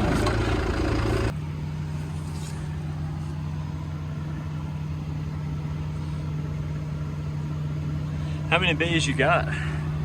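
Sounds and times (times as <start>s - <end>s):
low hum: 0.0s - 8.8s
engine running: 0.0s - 10.0s.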